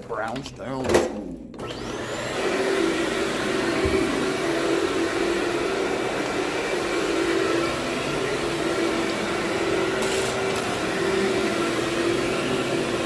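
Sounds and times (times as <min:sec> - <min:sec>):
vacuum cleaner running: 0:01.3 - 0:13.0.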